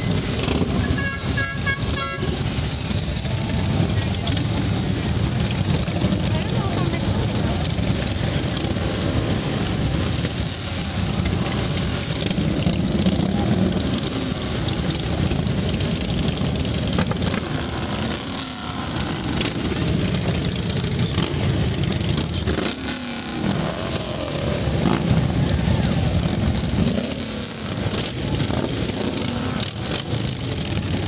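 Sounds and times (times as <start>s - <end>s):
motorcycle engines riding past: 0.0s - 31.0s.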